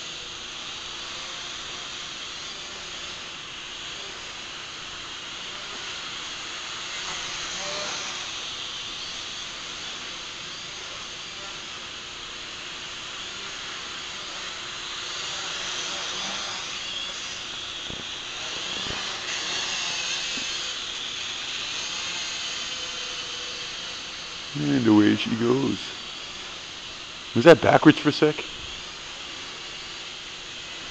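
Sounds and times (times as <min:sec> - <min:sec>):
drone propellers whirring: 0:00.0 - 0:30.9.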